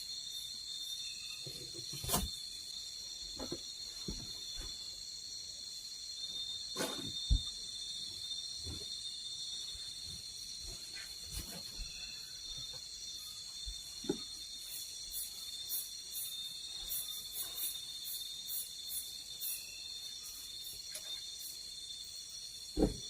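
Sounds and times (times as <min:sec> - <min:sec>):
insects ringing: 0:00.0 - 0:23.0.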